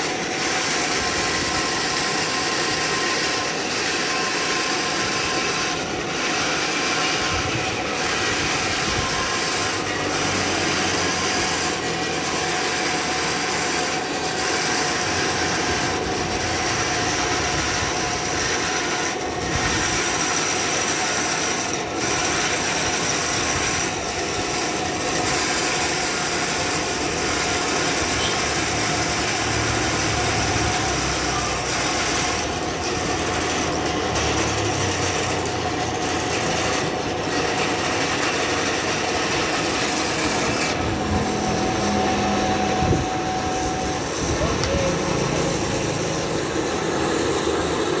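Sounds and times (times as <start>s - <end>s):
power saw ripping through wood: 0.0s - 48.0s.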